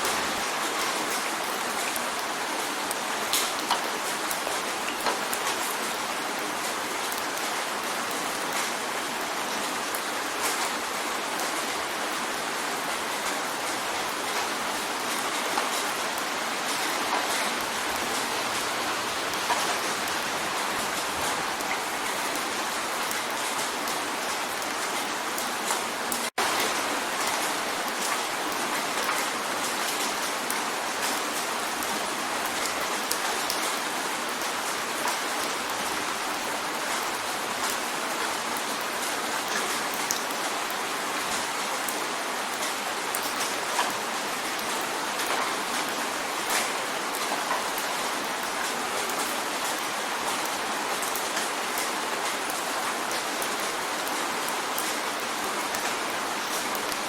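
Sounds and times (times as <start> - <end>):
rain drumming on a window: 0.0 - 57.0.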